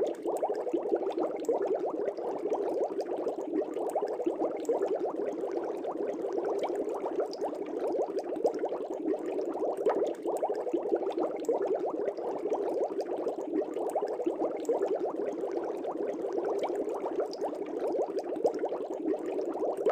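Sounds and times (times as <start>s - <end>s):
aquarium air bubbles: 0.0s - 19.9s.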